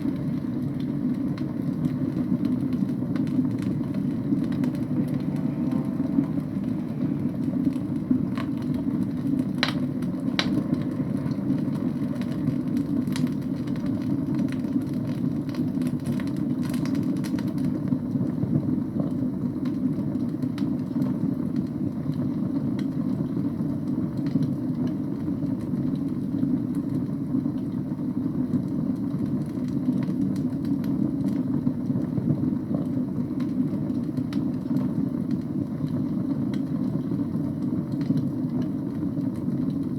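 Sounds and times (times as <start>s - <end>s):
logs crackling and popping: 0.0s - 39.9s
low rumble of fire flames: 0.0s - 39.9s.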